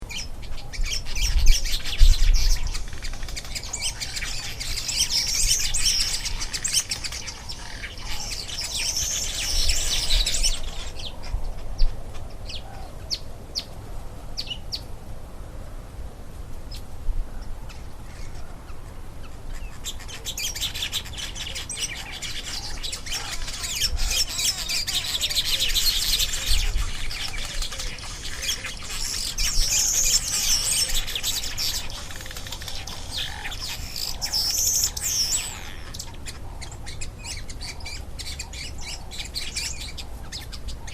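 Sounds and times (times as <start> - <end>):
weaverbirds chattering and chirping: 0.0 - 13.7, 17.7 - 40.9.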